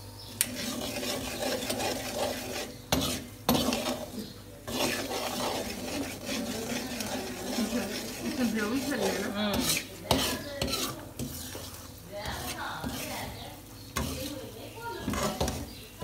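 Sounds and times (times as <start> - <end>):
light sizzle: 0.0 - 16.0
metal spoon scraping a pan: 0.3 - 15.9.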